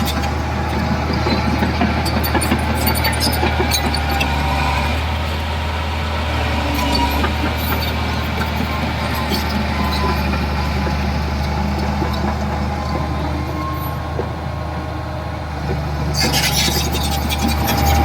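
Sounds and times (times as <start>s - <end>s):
heavy diesel engine droning: 0.0s - 18.0s.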